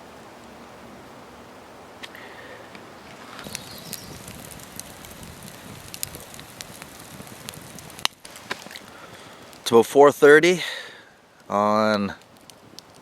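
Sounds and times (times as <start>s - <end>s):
campfire crackling: 0.0s - 13.0s
low steady hiss: 0.0s - 13.0s.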